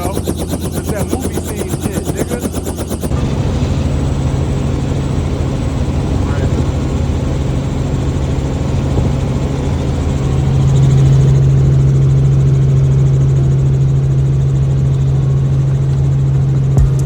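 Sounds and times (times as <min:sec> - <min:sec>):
helicopter drone: 0:00.0 - 0:17.0.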